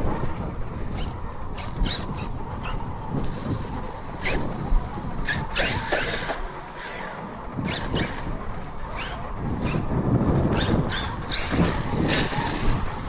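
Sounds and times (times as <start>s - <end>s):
radio-controlled car motor whining: 0.9s - 13.0s.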